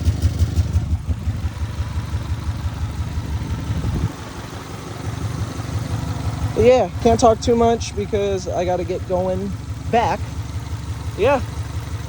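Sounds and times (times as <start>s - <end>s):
car engine idling: 0.0s - 12.0s
engine slap: 0.0s - 12.0s.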